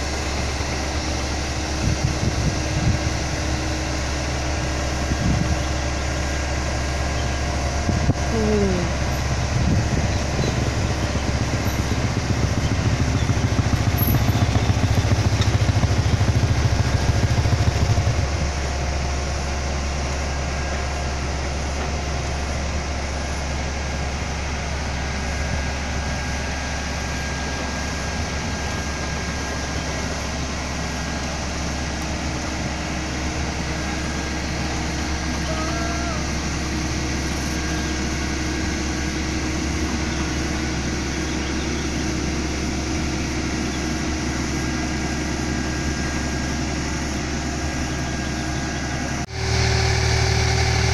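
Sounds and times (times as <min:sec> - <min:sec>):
heavy machinery engine rumble: 0:00.0 - 0:50.9.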